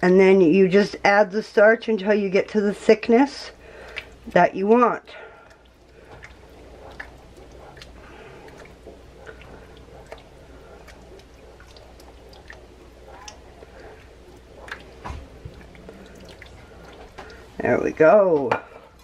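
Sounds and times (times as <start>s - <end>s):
faint low hum: 0.0s - 18.0s
wooden spoon stirring gravy: 0.8s - 19.0s.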